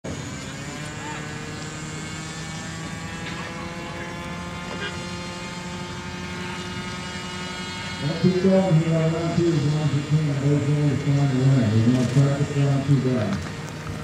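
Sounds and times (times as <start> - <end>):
model airplane engine running: 0.1 - 14.0.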